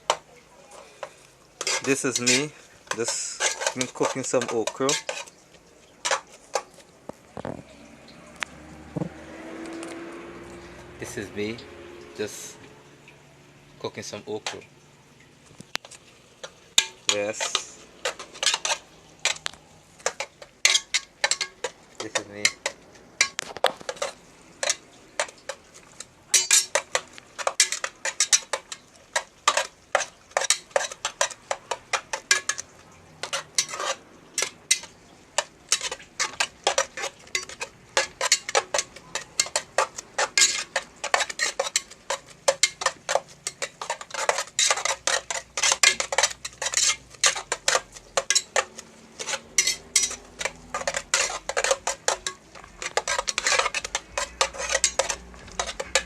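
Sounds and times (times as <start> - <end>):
utensil clinking and scraping pan: 0.0 - 6.9, 14.1 - 14.7, 15.8 - 56.0.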